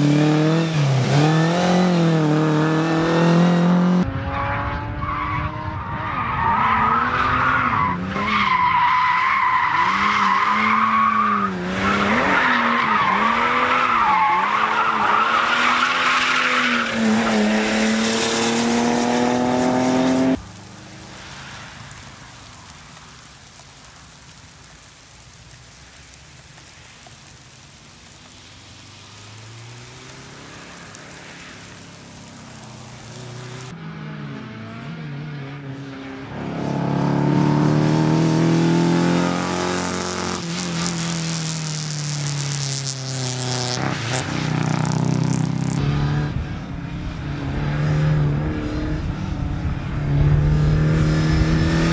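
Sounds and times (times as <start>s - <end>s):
car engine revving: 0.0s - 20.4s, 29.2s - 46.6s, 47.2s - 51.9s.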